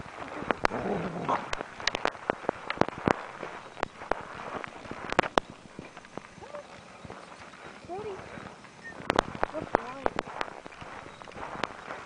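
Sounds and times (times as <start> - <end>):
footfalls on a hard surface: 0.0 - 12.0.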